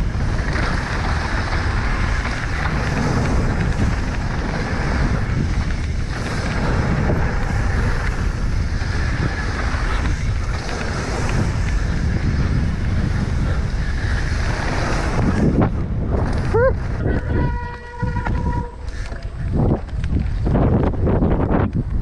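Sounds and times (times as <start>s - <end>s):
bike tyres rumbling on dirt trail: 0.0s - 22.0s
wind buffeting microphone: 0.0s - 22.0s.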